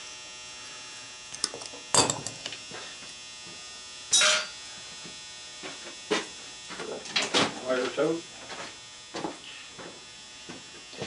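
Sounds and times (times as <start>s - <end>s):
electrical buzz: 0.0s - 11.0s.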